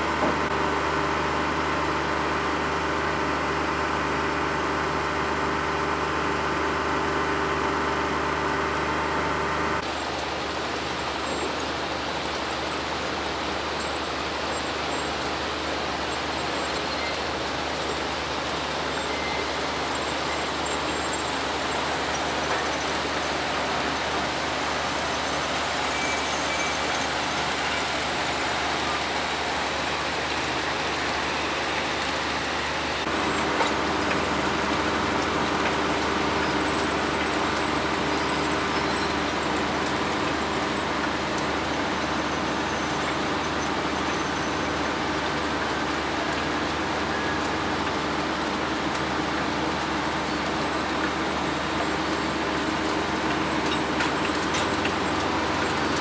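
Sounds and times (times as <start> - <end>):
boat engine and machinery running: 0.0 - 56.0.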